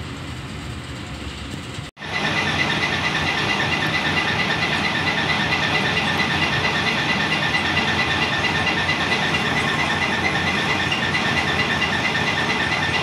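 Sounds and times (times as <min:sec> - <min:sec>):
fast repeating clatter: 0:00.8 - 0:13.0
stone crusher machine noise: 0:02.0 - 0:13.0.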